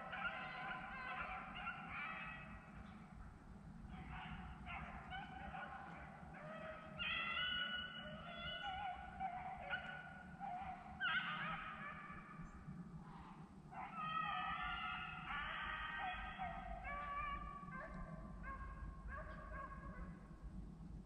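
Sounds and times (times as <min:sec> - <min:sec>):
hounds baying: 0:00.0 - 0:02.9, 0:03.9 - 0:12.4, 0:13.7 - 0:20.2.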